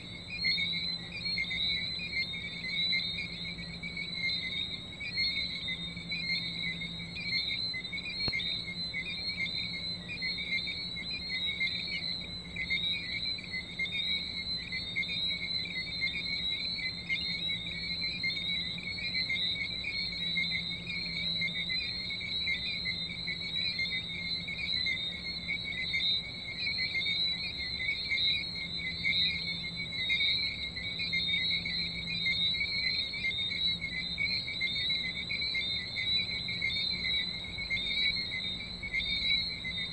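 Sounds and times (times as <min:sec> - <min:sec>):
faint low hum: 0:00.0 - 0:39.9
tree frogs chorus: 0:00.0 - 0:39.9.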